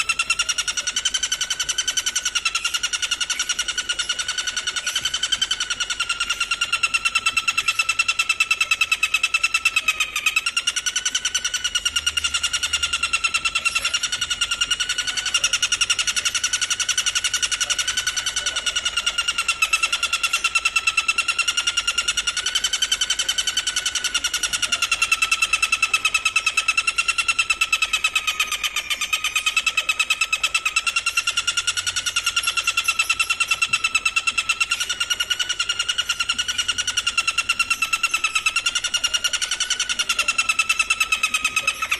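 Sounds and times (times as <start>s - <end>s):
insect trilling: 0.0s - 41.9s.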